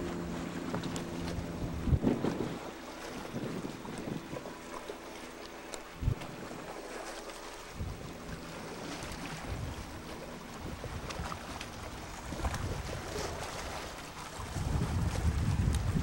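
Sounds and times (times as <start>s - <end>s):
wind buffeting microphone: 0.0s - 4.8s, 5.9s - 6.6s, 7.7s - 16.0s.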